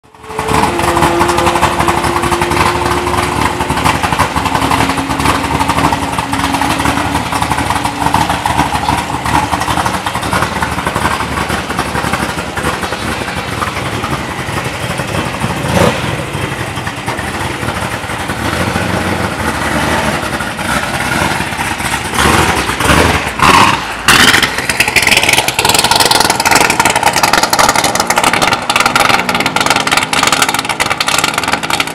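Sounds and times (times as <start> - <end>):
car engine idling with lope: 0.0 - 31.9.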